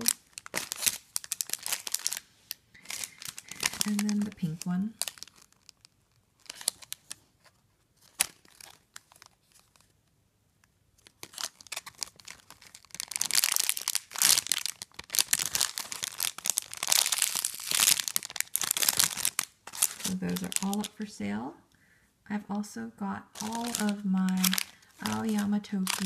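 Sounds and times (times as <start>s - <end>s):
plastic bag crinkling: 0.0s - 10.0s, 11.0s - 21.2s, 23.3s - 26.0s.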